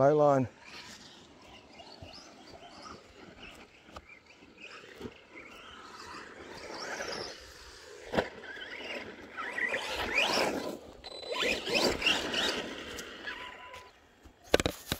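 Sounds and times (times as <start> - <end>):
electric motor whining: 0.5 - 14.1.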